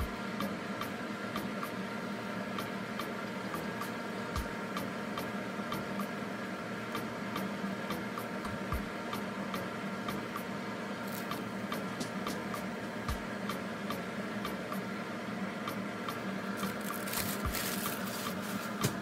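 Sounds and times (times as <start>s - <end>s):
music with ticking beat: 0.0s - 19.0s.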